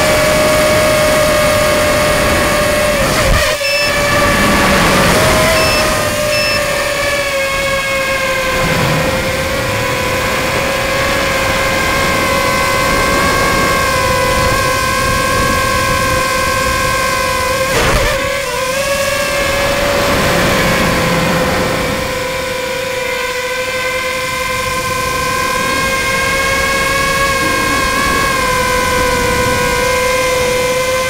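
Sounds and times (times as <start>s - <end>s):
constant rushing noise: 0.0s - 31.0s
drone motors buzzing whine: 0.0s - 31.0s.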